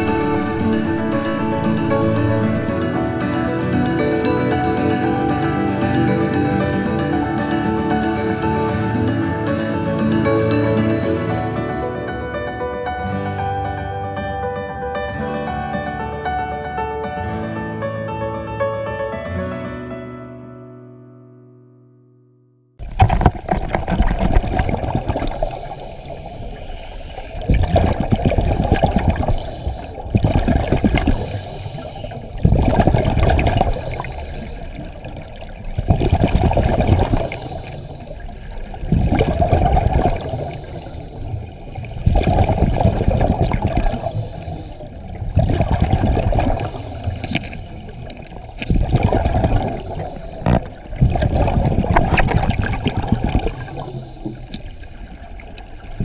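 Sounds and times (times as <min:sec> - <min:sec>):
scuba regulator bubbles underwater: 0:00.0 - 0:11.8, 0:22.8 - 0:56.0
low underwater noise: 0:00.0 - 0:13.6, 0:22.8 - 0:56.0.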